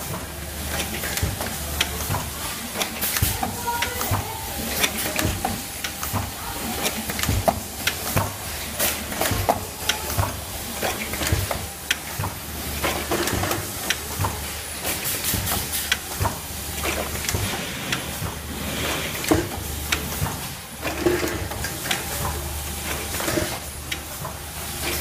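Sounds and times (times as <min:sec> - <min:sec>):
capping machine humming: 0:00.0 - 0:25.0.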